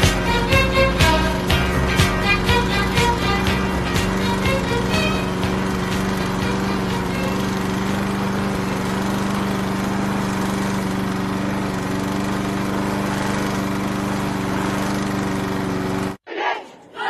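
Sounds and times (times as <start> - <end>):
small motor buzzing: 0.0 - 16.2.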